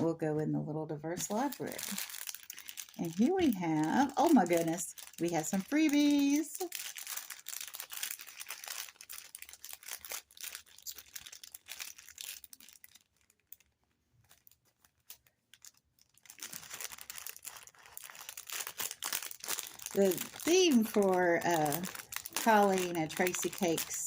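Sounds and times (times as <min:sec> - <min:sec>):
packaging crinkling and rustling: 0:01.2 - 0:24.0.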